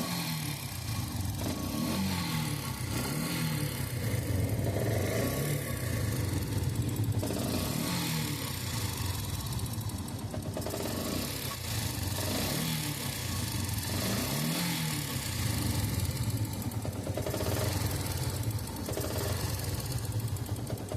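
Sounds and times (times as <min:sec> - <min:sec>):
motorcycle engine idling: 0:00.0 - 0:20.9
strange engine noise: 0:00.0 - 0:20.9.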